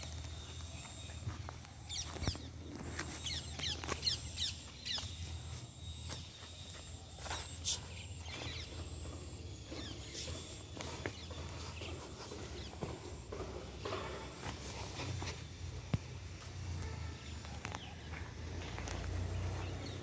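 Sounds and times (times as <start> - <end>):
small birds chirping: 0.0 - 16.4
steady low hum: 0.0 - 20.0.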